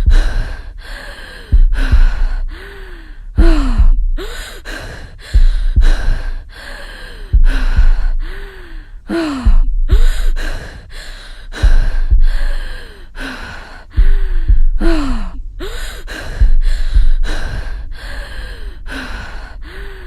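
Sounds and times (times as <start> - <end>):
person breathing heavily: 0.0 - 20.0.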